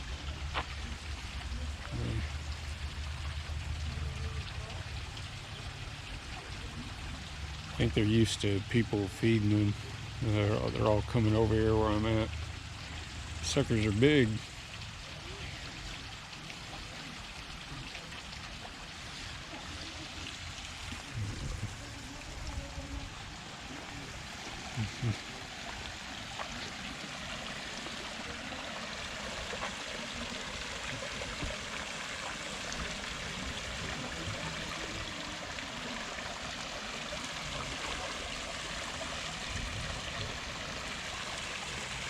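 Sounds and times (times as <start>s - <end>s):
running water rushing: 0.0s - 42.0s.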